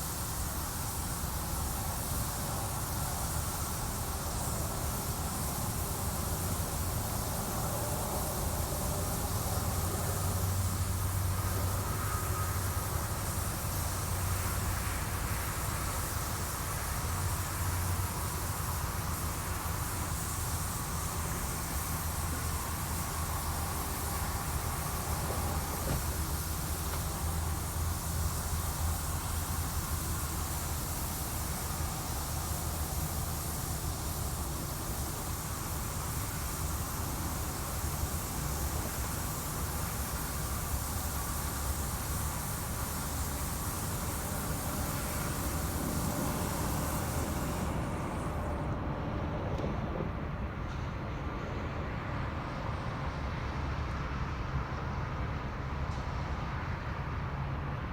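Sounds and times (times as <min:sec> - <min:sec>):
high hiss: 0:00.0 - 0:48.8
low mechanical drone with hum: 0:00.0 - 0:51.8.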